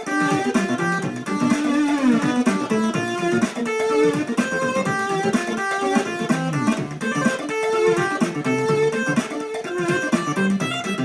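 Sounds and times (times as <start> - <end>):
chiptune music: 0.0 - 11.0.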